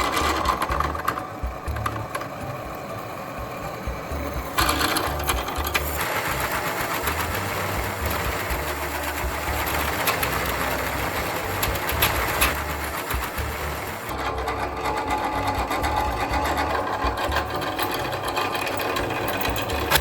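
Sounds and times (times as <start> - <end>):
power tool rattling on steel: 0.0 - 3.5, 4.1 - 20.0.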